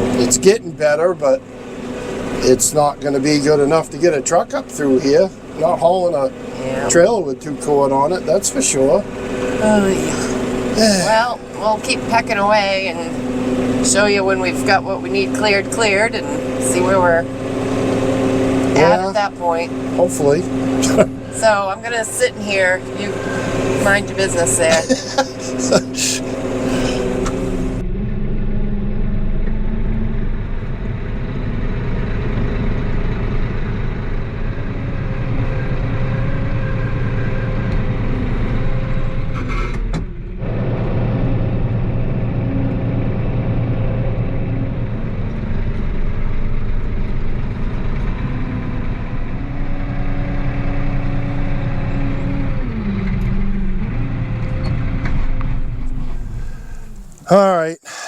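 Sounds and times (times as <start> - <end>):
loader engine running: 0.0 - 57.7.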